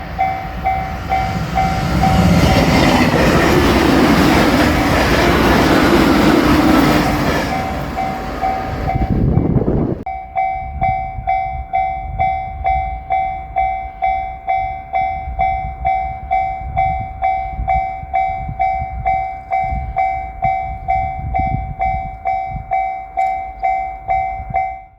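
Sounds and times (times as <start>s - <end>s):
train wheels running: 0.0s - 24.7s
two-tone crossing alarm dinging: 0.0s - 24.9s.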